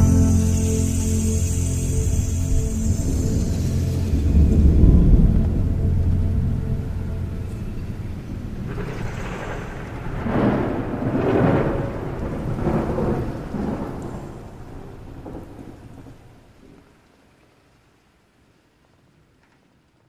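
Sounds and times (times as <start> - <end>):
low rumbling noise: 0.0 - 16.3.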